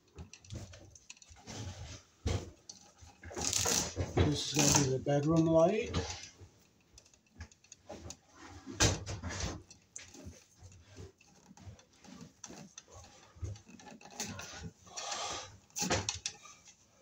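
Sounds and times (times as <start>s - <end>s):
cable handling rustles and scrapes: 0.0s - 17.0s.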